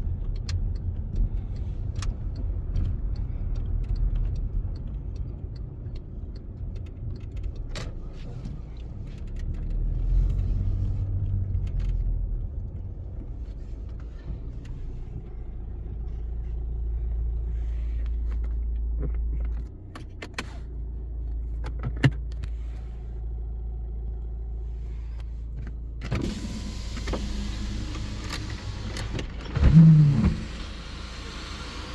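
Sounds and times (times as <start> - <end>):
car engine and tyres rumbling: 0.0 - 31.9.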